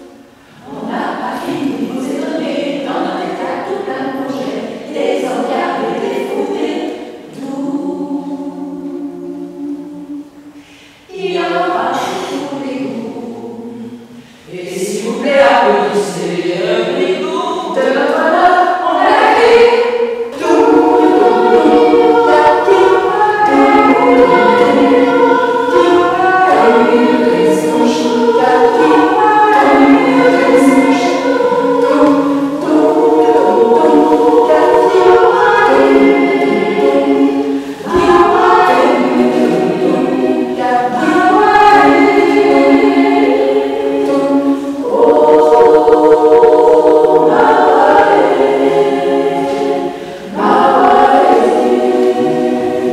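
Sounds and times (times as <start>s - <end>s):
women singing in harmony: 0.0s - 52.9s.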